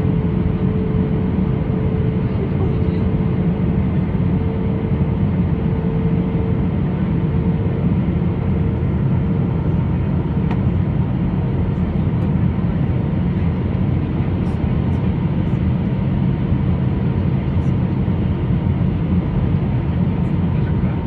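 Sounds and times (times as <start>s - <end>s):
airliner engines roaring: 0.0s - 21.0s.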